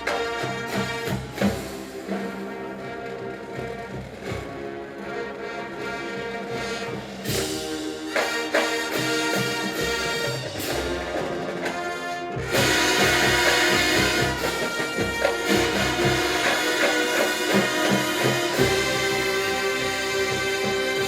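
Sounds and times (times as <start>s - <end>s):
brass playing sustained chords: 0.0s - 21.0s
drumline strokes: 0.0s - 21.0s.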